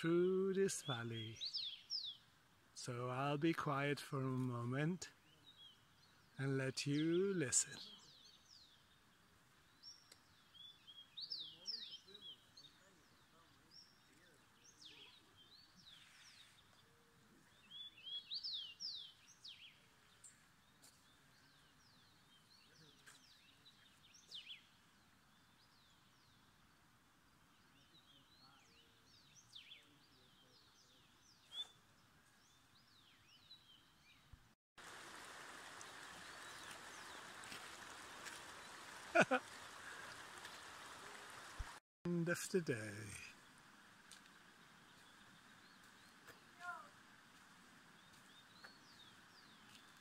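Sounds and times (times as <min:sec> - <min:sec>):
small birds chirping: 0:00.6 - 0:02.9, 0:04.4 - 0:50.0.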